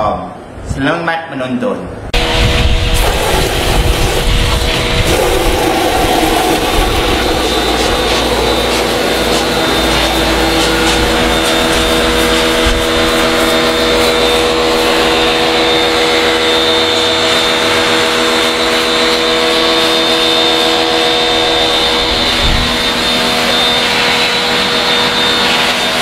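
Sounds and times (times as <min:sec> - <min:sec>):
loud machine drone: 0:02.1 - 0:26.0.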